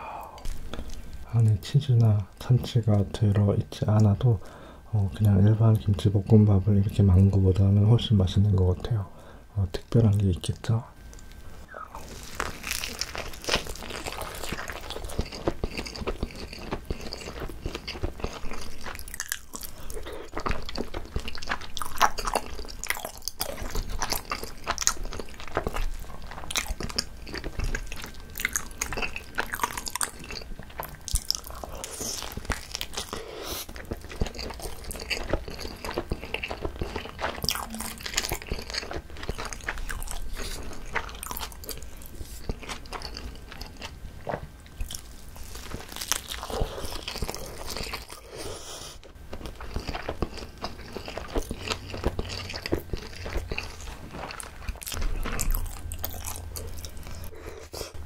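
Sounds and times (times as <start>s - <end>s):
biting and chewing rice roll: 11.2s - 58.0s.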